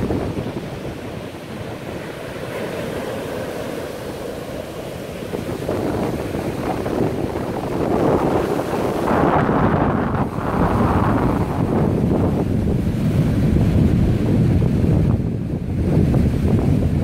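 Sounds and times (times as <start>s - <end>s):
surf breaking on a sandy beach: 0.0s - 17.0s
wind buffeting the microphone: 0.0s - 17.0s.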